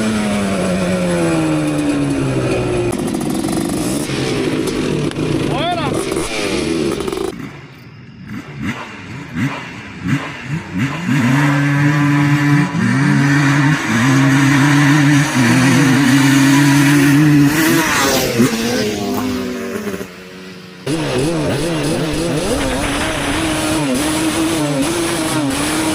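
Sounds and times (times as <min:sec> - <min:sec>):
atv engines revving: 0:00.0 - 0:25.9.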